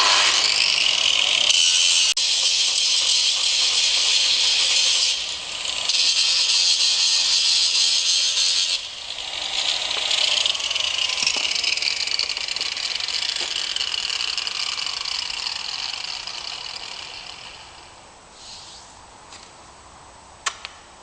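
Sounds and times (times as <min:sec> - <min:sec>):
angle grinder grinding stone: 0:00.0 - 0:18.1.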